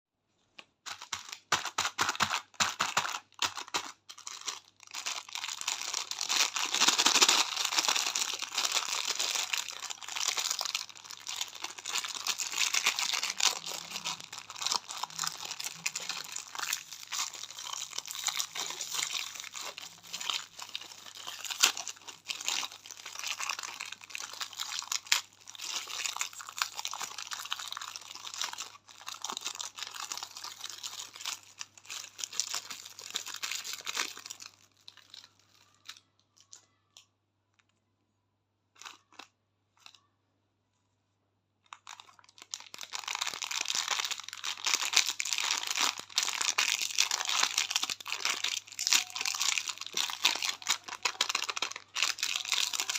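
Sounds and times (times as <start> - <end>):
candy wrappers crinkling: 0.6 - 37.8, 38.7 - 40.1, 41.7 - 52.9.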